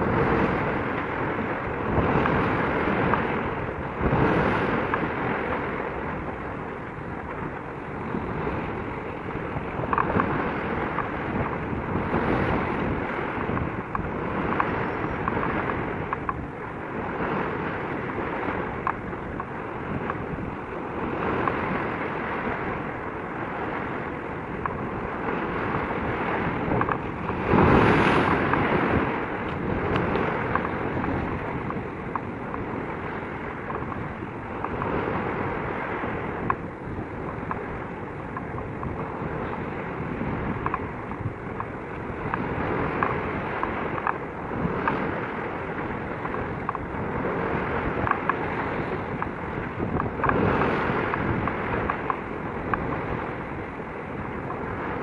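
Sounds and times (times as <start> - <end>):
choppy sea water: 0.0 - 55.0
wind buffeting microphone: 0.0 - 55.0.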